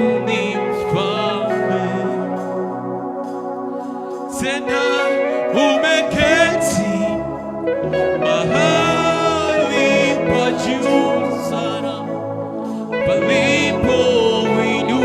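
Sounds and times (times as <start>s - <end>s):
person singing long notes: 0.0s - 2.6s, 4.3s - 15.0s
keyboard chords: 0.0s - 15.0s.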